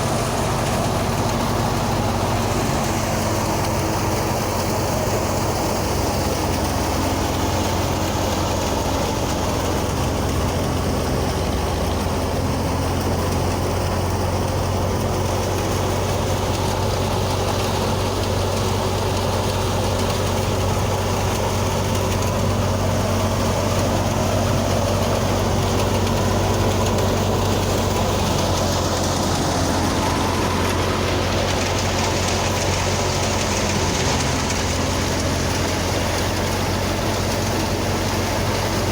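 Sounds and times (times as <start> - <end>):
harvesting machine engine droning: 0.0 - 38.9.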